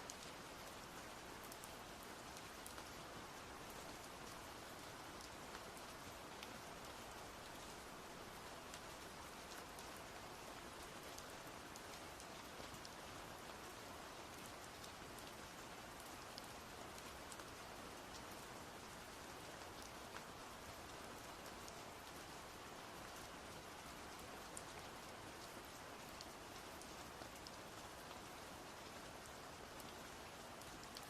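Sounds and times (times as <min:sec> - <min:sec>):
faint rain-like patter: 0:00.0 - 0:31.0.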